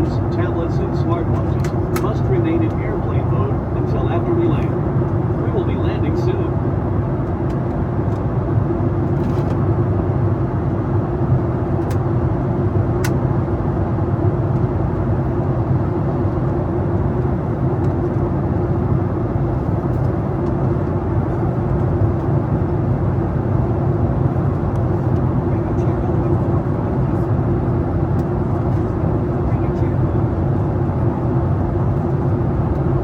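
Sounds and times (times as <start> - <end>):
airliner cabin engine hum: 0.0 - 33.0.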